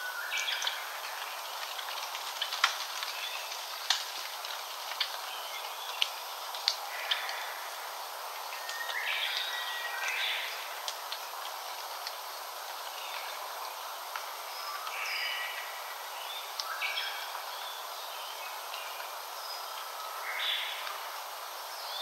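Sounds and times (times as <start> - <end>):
forest ambience hiss: 0.0 - 22.0.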